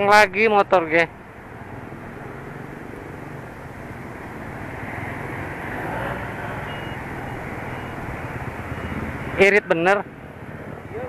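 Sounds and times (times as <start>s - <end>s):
street traffic passing: 0.0s - 11.0s
motorcycle engine: 0.7s - 11.0s.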